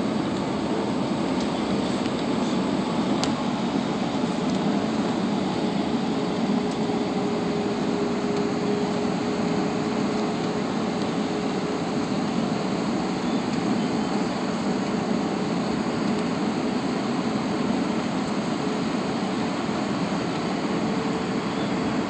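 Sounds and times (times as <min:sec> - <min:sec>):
jet cabin engine and airflow rush: 0:00.0 - 0:22.0.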